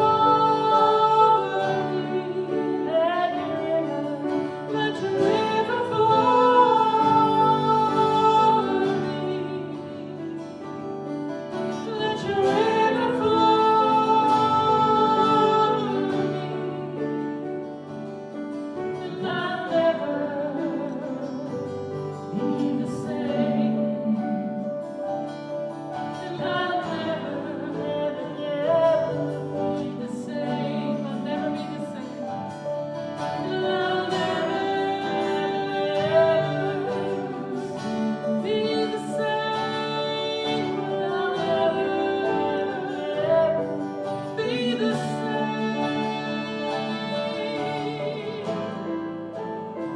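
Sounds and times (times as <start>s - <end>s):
guitar and instruments: 0.0s - 49.9s
person singing: 0.0s - 49.9s.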